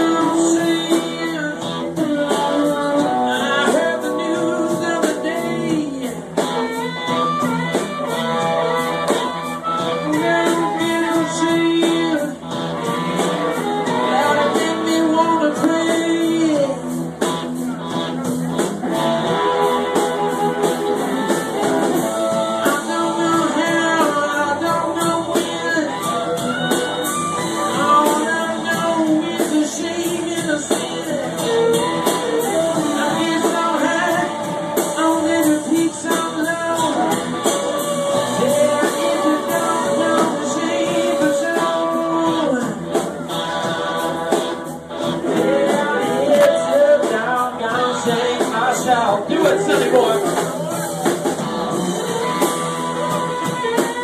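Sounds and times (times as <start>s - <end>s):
electric guitar: 0.0s - 54.0s
rock and roll band playing: 0.0s - 54.0s.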